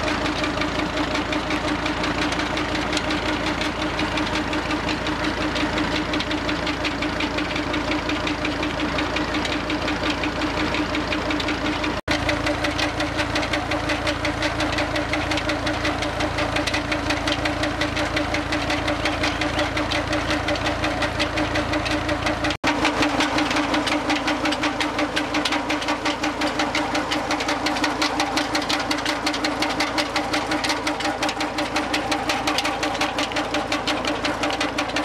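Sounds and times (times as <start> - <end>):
diesel engine knocking rhythmically: 0.0 - 35.0.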